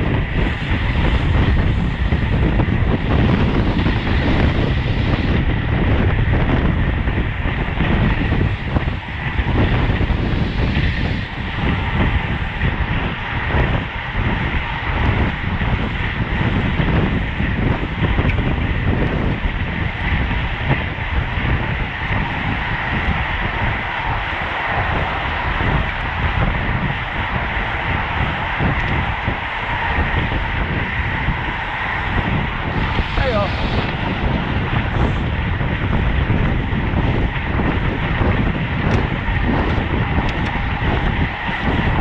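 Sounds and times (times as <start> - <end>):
bicycle tyre and drivetrain noise: 0.0 - 42.0
wind buffeting microphone: 0.0 - 42.0.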